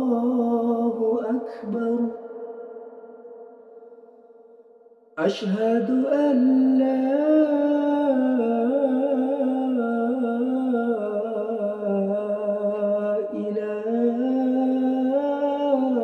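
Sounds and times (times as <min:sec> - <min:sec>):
man chanting call to prayer: 0:00.0 - 0:02.2, 0:05.2 - 0:16.0.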